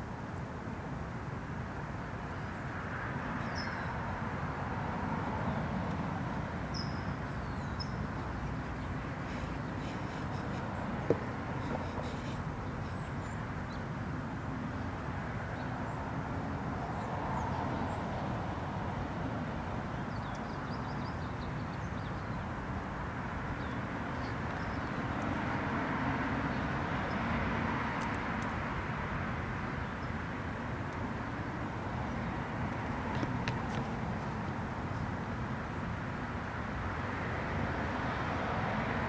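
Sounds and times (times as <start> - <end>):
distant road traffic: 0.0 - 39.0.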